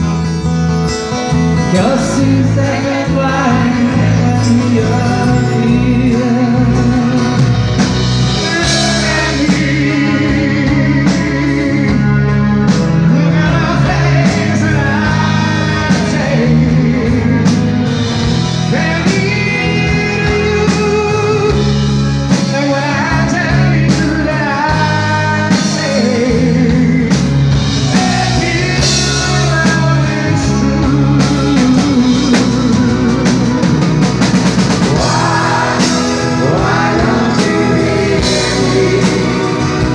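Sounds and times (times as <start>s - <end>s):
live band playing: 0.0s - 39.9s
man singing: 1.5s - 39.9s.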